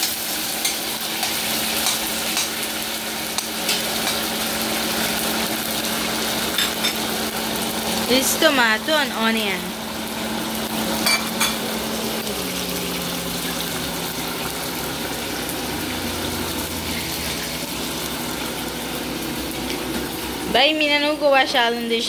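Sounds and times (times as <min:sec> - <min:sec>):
food sizzling in a saucepan: 0:00.0 - 0:22.0.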